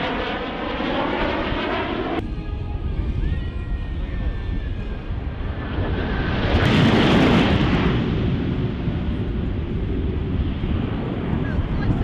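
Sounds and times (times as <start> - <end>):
jet engines roaring past: 0.0 - 12.0.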